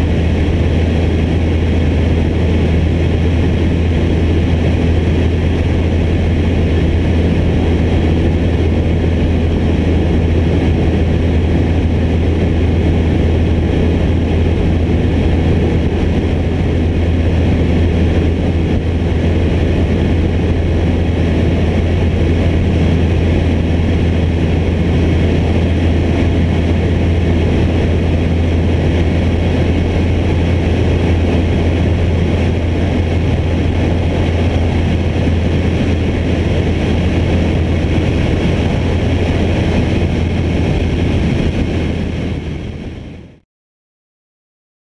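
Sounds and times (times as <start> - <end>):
light plane engine droning: 0.0 - 43.4.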